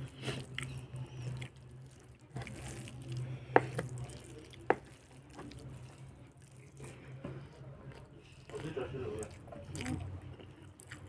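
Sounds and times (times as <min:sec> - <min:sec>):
mouth eating noises: 0:00.0 - 0:07.1, 0:07.9 - 0:11.0
fingers squishing wet food: 0:00.0 - 0:11.0.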